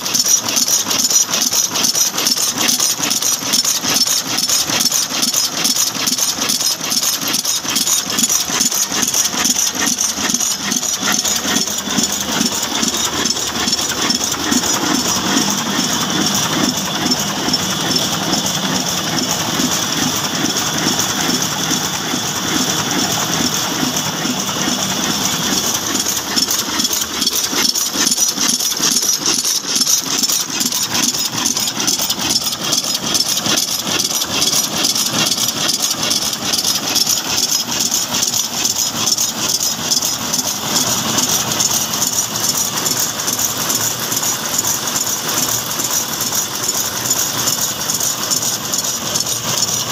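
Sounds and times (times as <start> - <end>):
diesel engine running steadily: 0.0 - 49.9
mechanical rattle: 0.0 - 49.9.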